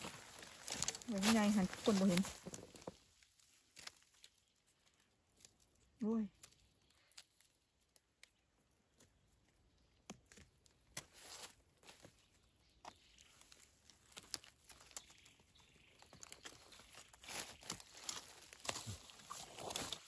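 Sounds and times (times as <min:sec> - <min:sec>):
rustling and crackling on forest floor: 0:00.0 - 0:20.0.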